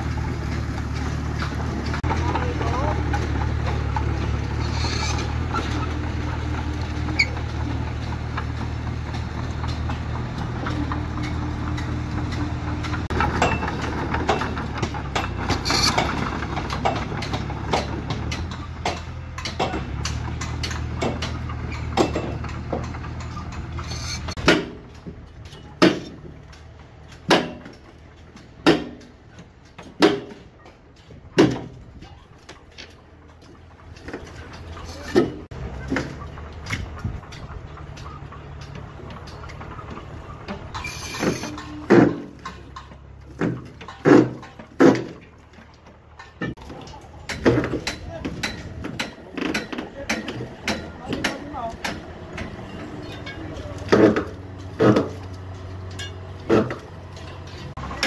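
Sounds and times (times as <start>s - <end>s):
bulldozer diesel engine running: 0.0s - 58.0s
metal clanks: 0.0s - 58.0s.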